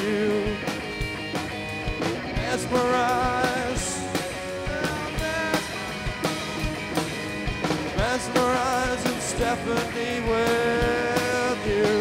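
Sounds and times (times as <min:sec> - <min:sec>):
drum kit steady beat: 0:00.0 - 0:12.0
electric guitar: 0:00.0 - 0:12.0.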